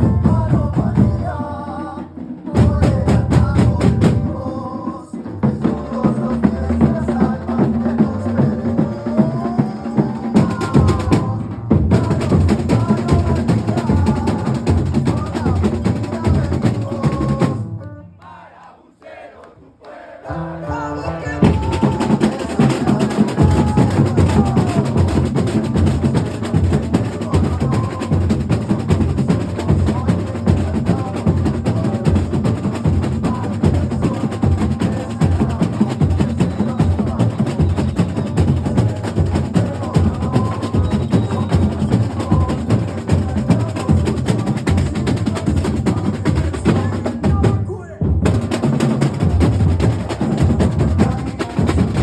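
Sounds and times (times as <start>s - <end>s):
bass drums: 0.0s - 1.5s, 2.5s - 4.5s, 5.3s - 17.7s, 21.2s - 52.0s
snare drums: 0.0s - 17.7s, 21.4s - 52.0s.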